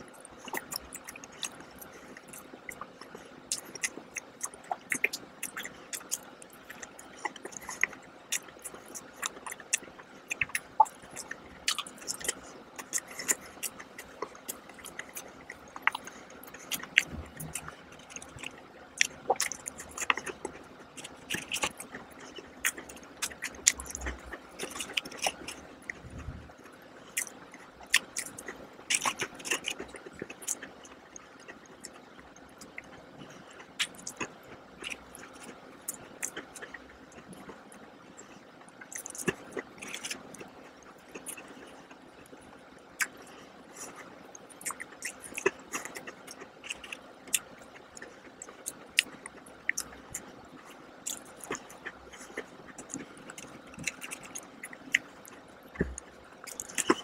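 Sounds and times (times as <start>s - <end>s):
chewing and mouth sounds: 0.1s - 57.0s.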